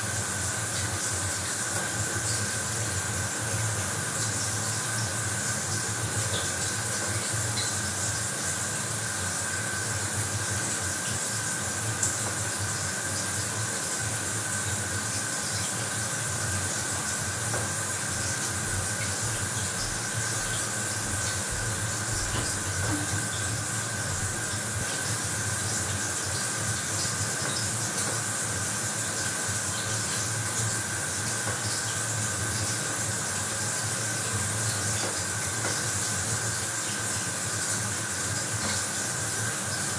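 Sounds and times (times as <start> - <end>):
shower water spraying: 0.1 - 39.9.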